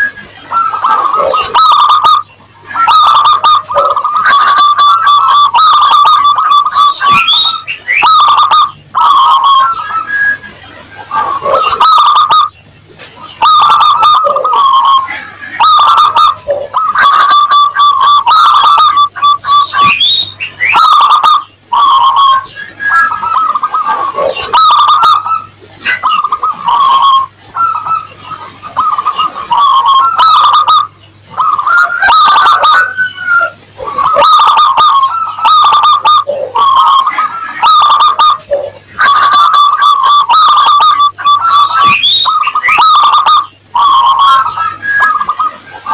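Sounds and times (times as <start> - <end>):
dove cooing: 0.0 - 45.9
faint steady hum: 0.0 - 45.9.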